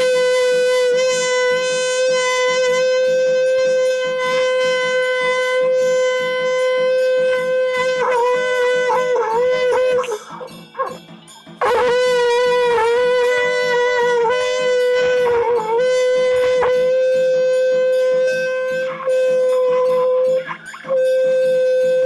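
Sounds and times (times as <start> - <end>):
conch shell blown: 0.0 - 22.0.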